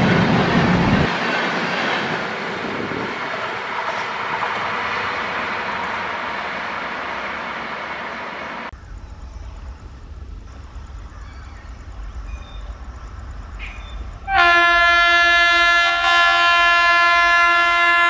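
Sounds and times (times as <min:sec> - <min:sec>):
train rushing past: 0:00.0 - 0:17.8.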